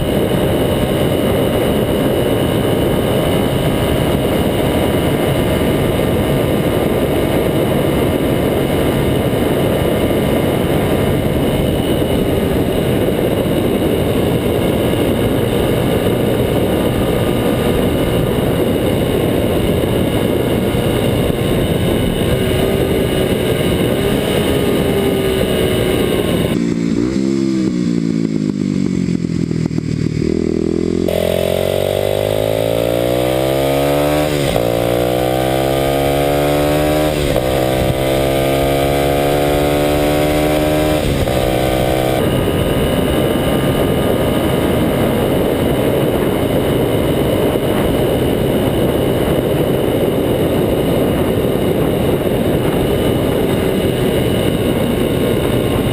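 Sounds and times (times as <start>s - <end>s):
motorcycle engine accelerating: 0.0s - 55.9s
wind on microphone: 0.0s - 55.9s.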